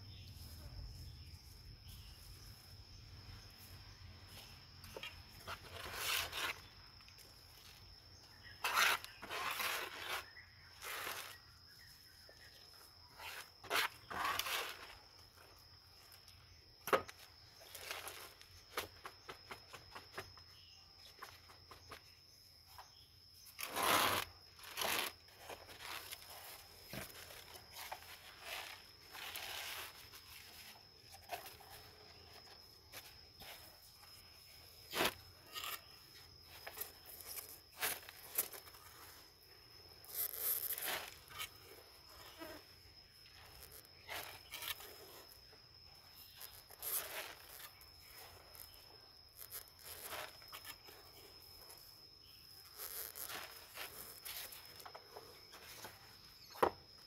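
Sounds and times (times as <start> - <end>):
potting soil and pots rustling: 0.0 - 57.0.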